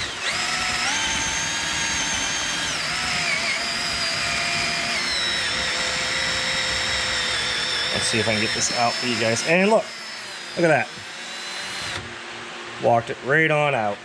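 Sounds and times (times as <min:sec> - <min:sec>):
power drill whining: 0:00.0 - 0:12.1.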